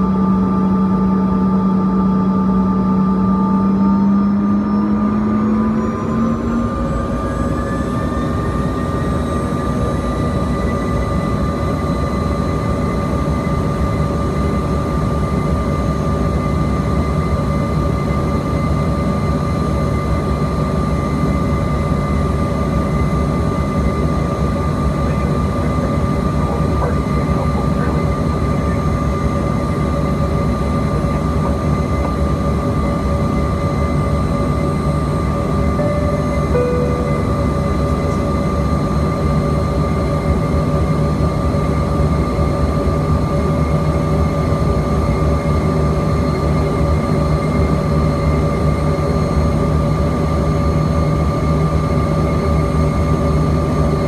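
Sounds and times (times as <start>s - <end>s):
jet engines whining in cabin: 0.0s - 54.0s.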